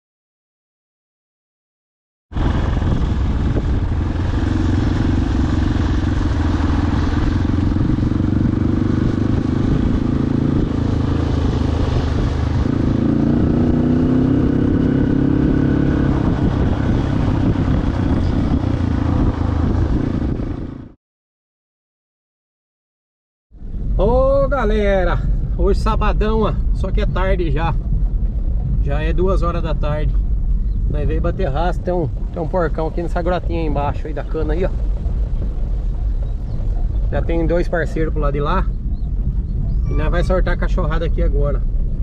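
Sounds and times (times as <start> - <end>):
vehicle engine running: 2.3 - 21.0, 23.6 - 42.0.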